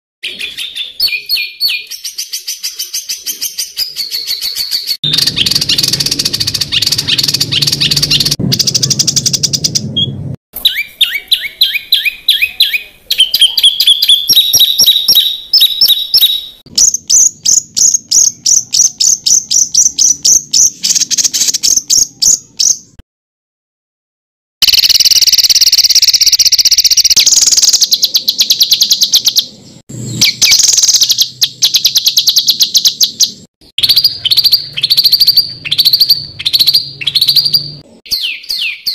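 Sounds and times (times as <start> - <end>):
songbird harsh trills: 0.2 - 23.0, 24.6 - 38.9.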